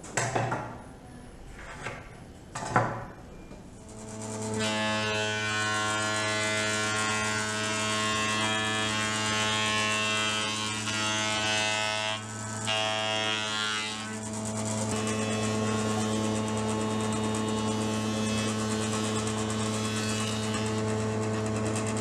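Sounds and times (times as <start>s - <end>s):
electric planer cutting wood: 3.8s - 22.0s.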